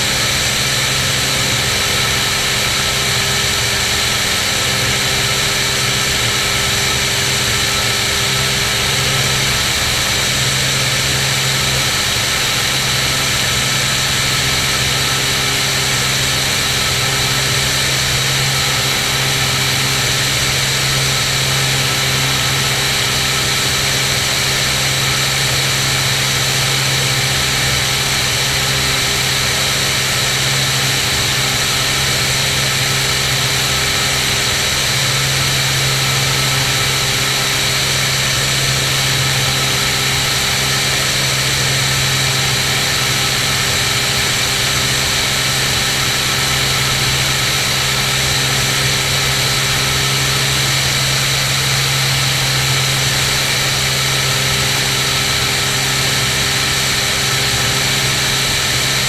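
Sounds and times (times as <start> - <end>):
airplane engine and propeller drone: 0.0 - 59.0.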